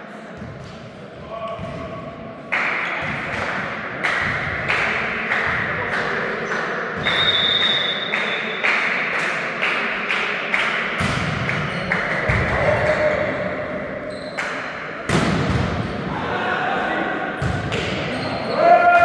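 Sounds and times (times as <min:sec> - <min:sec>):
rhythmic echoing thumps: 0:00.3 - 0:07.3, 0:08.2 - 0:16.2, 0:17.2 - 0:18.4.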